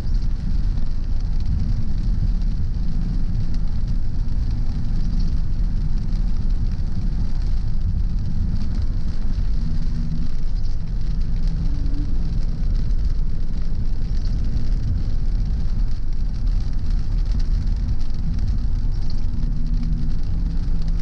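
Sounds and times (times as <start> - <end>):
car road and engine rumble: 0.0 - 21.0
tyres hissing on wet road: 0.0 - 21.0.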